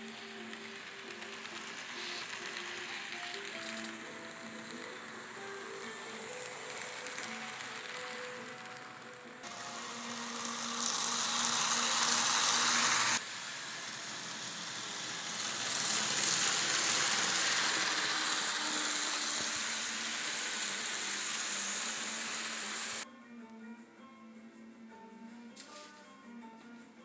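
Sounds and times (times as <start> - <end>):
model train motor whirring: 0.0 - 23.0.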